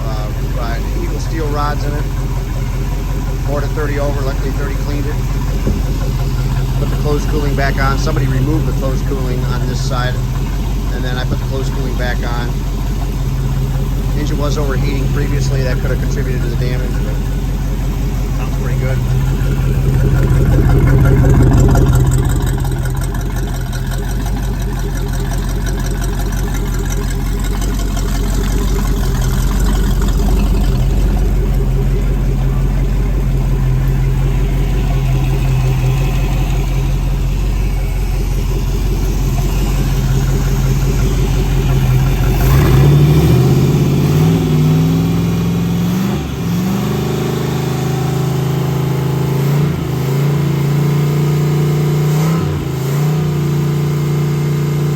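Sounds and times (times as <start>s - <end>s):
boat engine running and revving: 0.0s - 54.9s.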